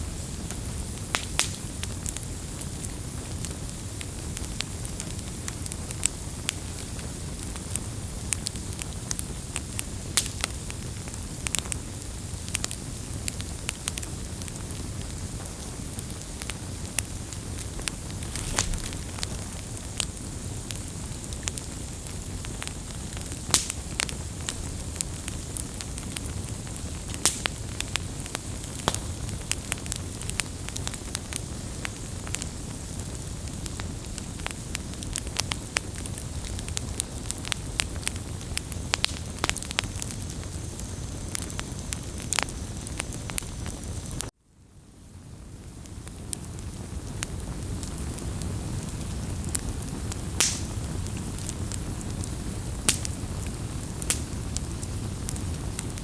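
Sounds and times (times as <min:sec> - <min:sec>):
campfire crackling and popping: 0:00.0 - 0:44.3, 0:45.4 - 0:56.0.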